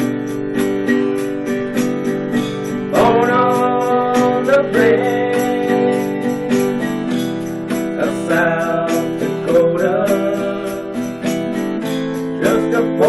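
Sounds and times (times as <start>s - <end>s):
acoustic guitar strumming: 0.0s - 13.0s
sliding melody line: 0.0s - 13.0s.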